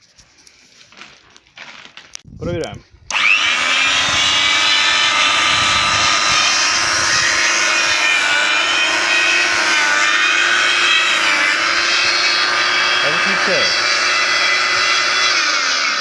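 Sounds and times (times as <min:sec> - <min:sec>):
grinding wheel whining: 0:03.1 - 0:16.0.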